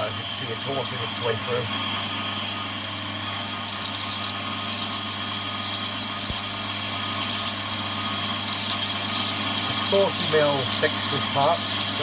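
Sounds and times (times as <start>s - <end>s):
lathe drill cutting aluminium: 0.0s - 12.0s.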